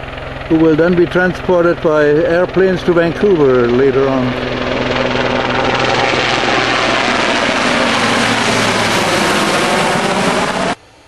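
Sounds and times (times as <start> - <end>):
helicopter flying overhead: 0.0 - 11.0.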